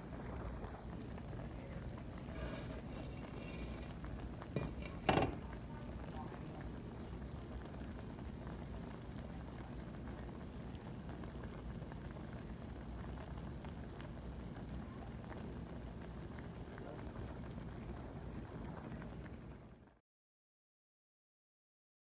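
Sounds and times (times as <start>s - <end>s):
pot bubbling and sizzling: 0.0s - 19.8s.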